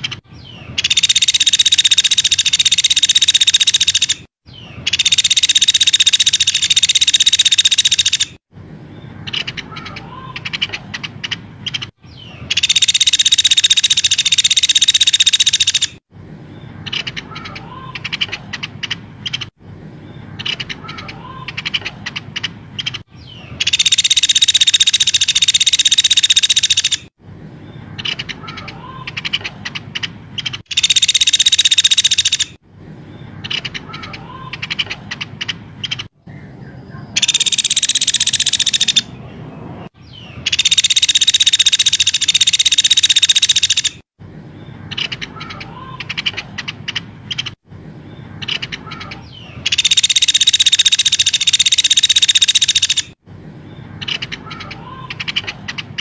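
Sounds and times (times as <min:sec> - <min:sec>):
quick ticking bird notes: 0:00.0 - 0:08.4, 0:09.2 - 0:16.0, 0:16.8 - 0:19.6, 0:20.4 - 0:27.1, 0:28.0 - 0:32.6, 0:33.4 - 0:36.2, 0:37.1 - 0:39.3, 0:40.0 - 0:44.0, 0:44.9 - 0:47.6, 0:48.4 - 0:53.2, 0:54.0 - 0:56.0
buzzy bird chatter: 0:00.0 - 0:56.0.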